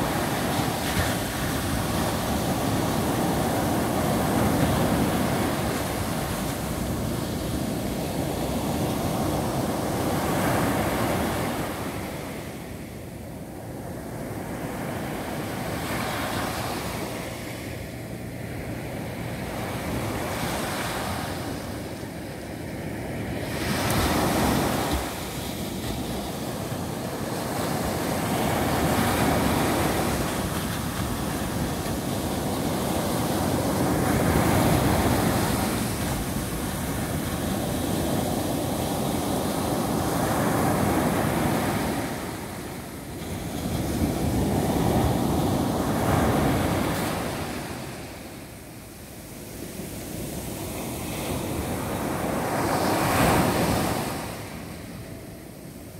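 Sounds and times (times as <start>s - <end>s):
small waves breaking on sand: 0.0s - 55.9s.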